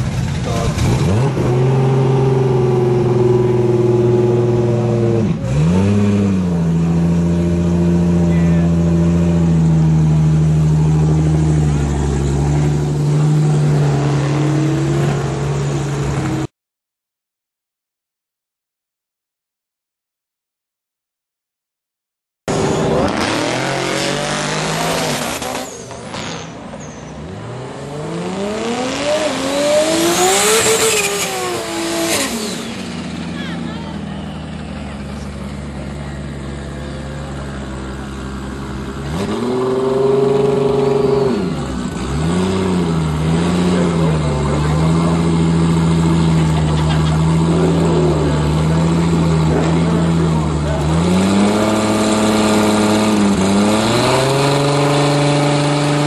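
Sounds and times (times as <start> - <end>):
car engine revving high: 0.2 - 16.5, 22.5 - 26.6, 27.2 - 56.0.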